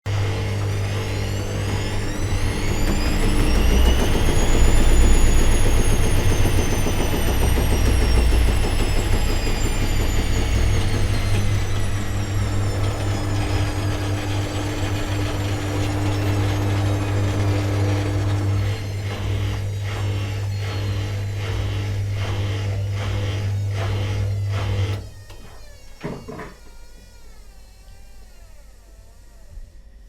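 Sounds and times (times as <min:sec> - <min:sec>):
washing machine spinning: 0:00.0 - 0:27.3.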